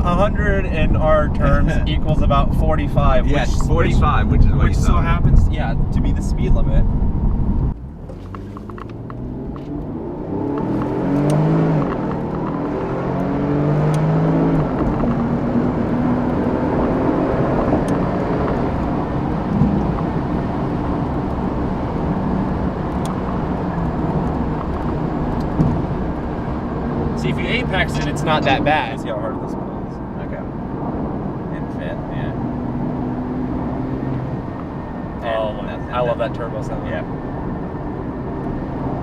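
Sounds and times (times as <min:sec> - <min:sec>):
road noise: 0:00.0 - 0:39.0
sports car engine accelerating: 0:00.0 - 0:39.0.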